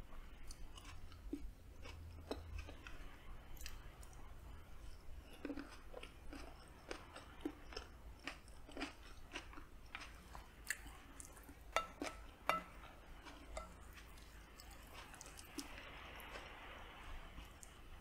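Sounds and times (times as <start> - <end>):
close chewing: 0.2 - 18.0.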